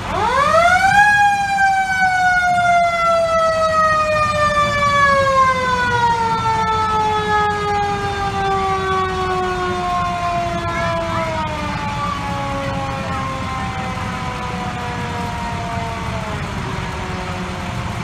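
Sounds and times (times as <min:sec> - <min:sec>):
engines idling: 0:00.0 - 0:18.0
fire truck siren winding: 0:00.0 - 0:18.0.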